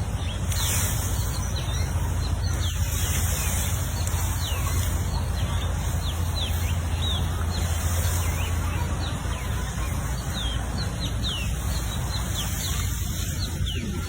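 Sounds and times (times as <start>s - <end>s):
bird chirping: 0.0s - 14.0s
steady low rumble: 0.0s - 14.0s.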